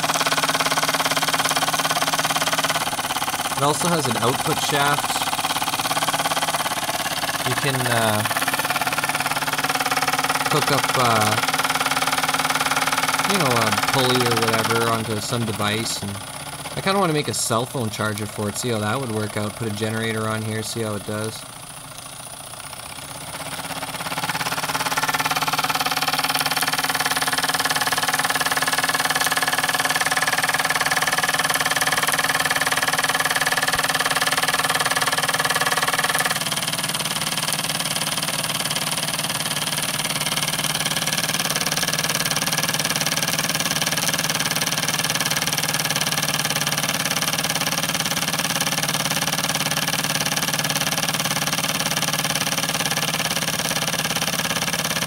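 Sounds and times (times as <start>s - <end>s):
toy steam engine clattering: 0.0s - 55.0s.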